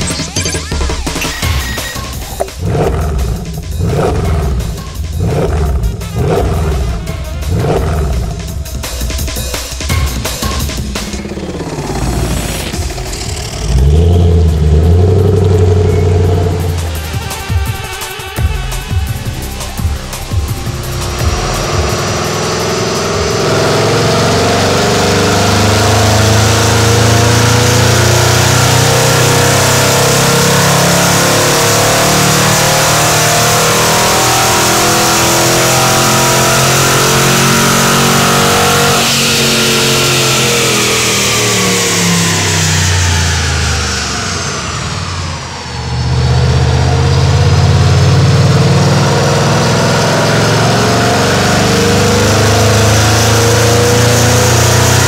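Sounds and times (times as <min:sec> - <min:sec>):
car engine: 0:00.0 - 0:55.0.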